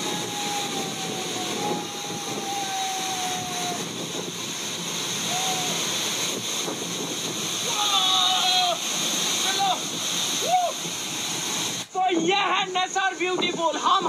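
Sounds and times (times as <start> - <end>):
waterfall roaring onto rocks: 0.0 - 14.0.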